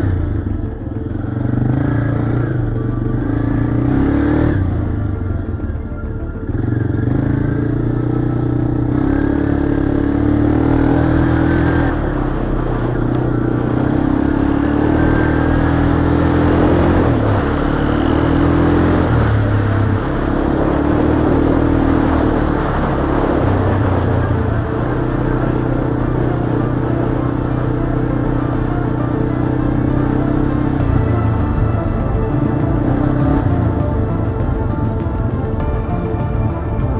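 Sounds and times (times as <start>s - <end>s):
atv engine running: 0.0s - 36.9s
rushing noise of travel: 0.0s - 36.9s.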